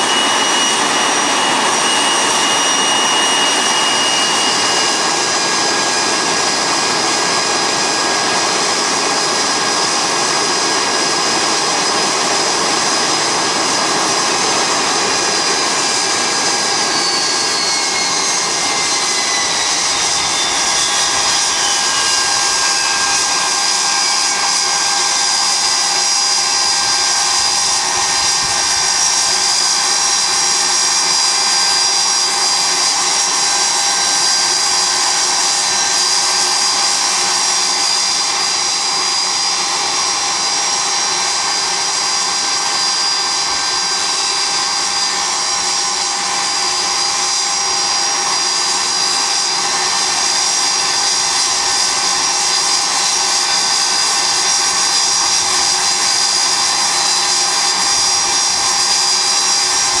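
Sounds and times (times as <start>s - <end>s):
high-pitched turbine whine: 0.0s - 60.0s
jet engines rushing: 0.0s - 60.0s.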